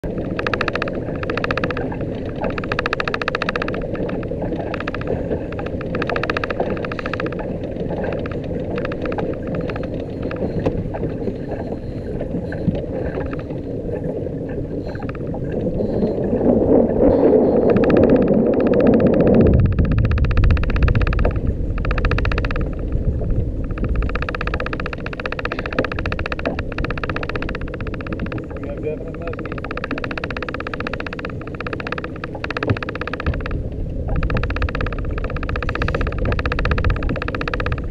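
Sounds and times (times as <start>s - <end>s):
choppy water rushing: 0.0s - 37.9s
wind: 0.0s - 37.9s.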